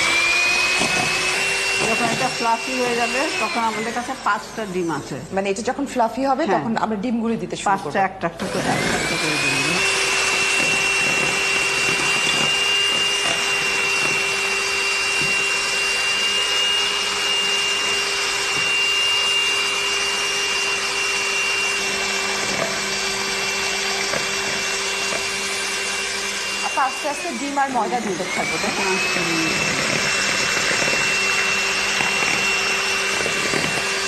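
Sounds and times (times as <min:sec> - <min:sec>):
electric mixer whining: 0:00.0 - 0:06.9, 0:08.2 - 0:34.0.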